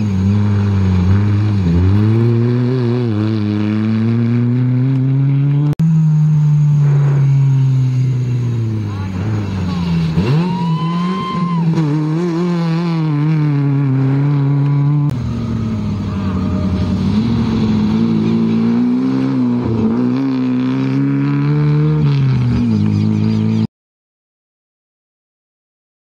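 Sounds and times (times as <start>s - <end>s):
rally car engines revving: 0.0s - 23.7s.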